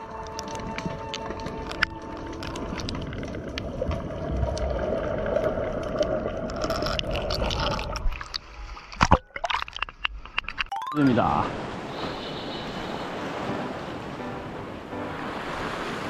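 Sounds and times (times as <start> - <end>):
sea water washing and gurgling: 0.0 - 16.0.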